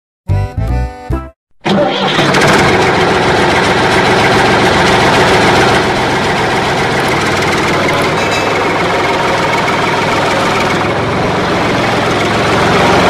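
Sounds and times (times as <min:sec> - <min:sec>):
tractor engine idling: 0:01.6 - 0:13.0.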